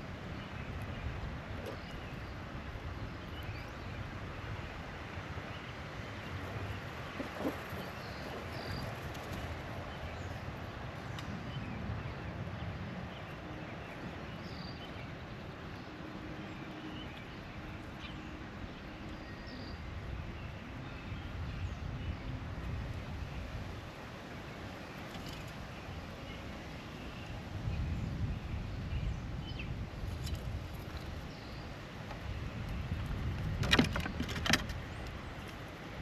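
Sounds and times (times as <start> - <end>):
wind rumbling on microphone: 0.0 - 36.0.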